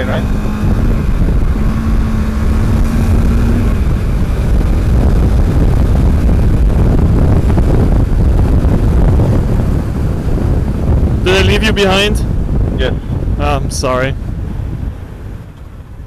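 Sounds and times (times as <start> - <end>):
motorcycle engine running: 0.0 - 16.0
wind rumble: 0.0 - 16.0.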